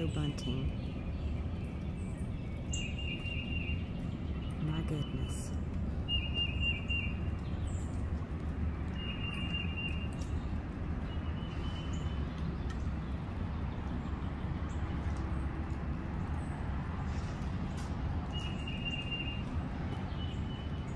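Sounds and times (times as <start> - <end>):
steady low rumble: 0.0 - 18.7.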